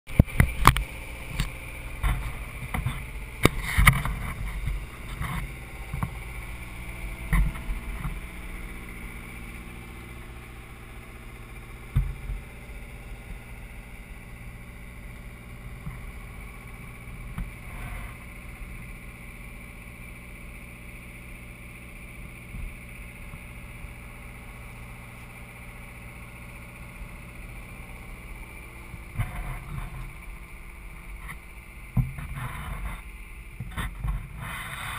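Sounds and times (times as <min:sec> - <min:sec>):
boat engine humming: 0:00.1 - 0:34.9
high engine whine: 0:00.1 - 0:34.9.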